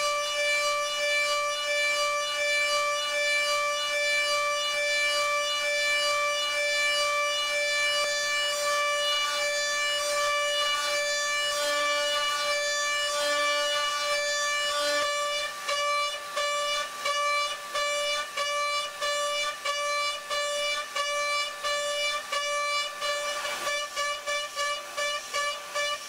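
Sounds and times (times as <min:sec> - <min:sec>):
milling spindle cutting whine: 0:00.1 - 0:26.0.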